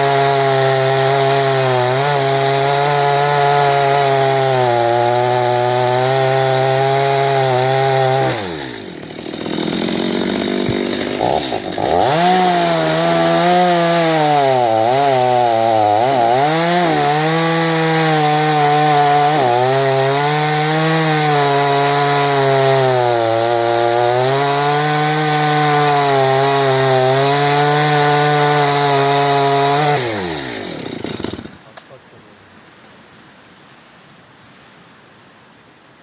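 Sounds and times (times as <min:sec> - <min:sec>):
chainsaw cutting wood: 0:00.0 - 0:31.6.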